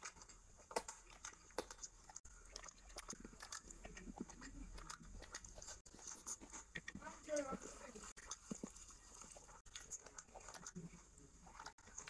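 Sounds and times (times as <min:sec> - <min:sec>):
fingers squishing rice: 0:00.0 - 0:12.0
wet chewing and lip-smacking: 0:00.0 - 0:12.0.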